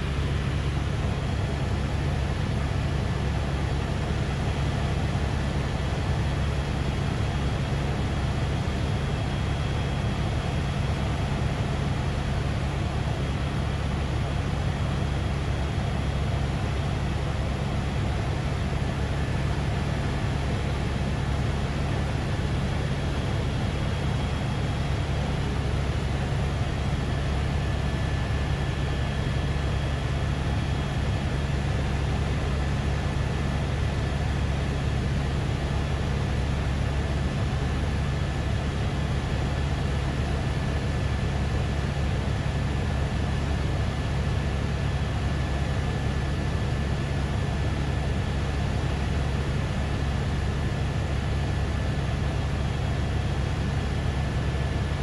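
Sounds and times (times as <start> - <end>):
helicopter rotor drone: 0.0 - 55.0.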